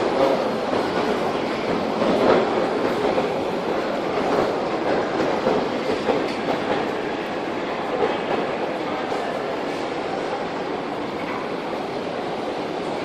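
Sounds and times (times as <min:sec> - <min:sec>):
metro station mechanical rumble: 0:00.0 - 0:13.0.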